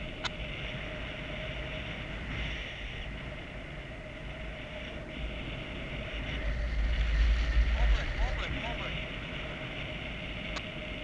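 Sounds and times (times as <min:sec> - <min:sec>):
low buffeting rumble: 0:00.0 - 0:11.0
wind rushing over microphone: 0:00.0 - 0:11.0.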